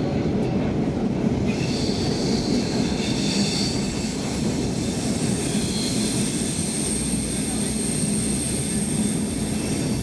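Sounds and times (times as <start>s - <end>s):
train rumble and hiss: 0.0s - 10.0s.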